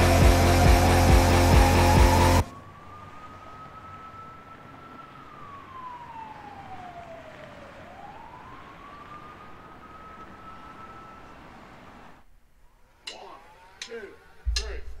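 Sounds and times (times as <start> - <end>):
emergency siren wailing: 0.0 - 14.9.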